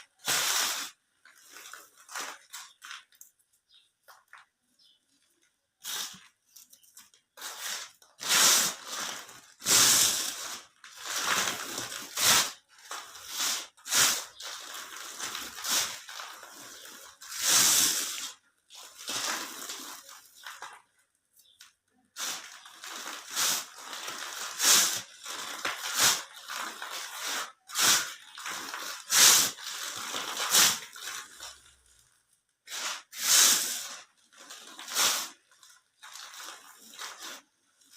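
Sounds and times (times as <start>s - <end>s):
cement cubes crunching: 5.7s - 37.9s.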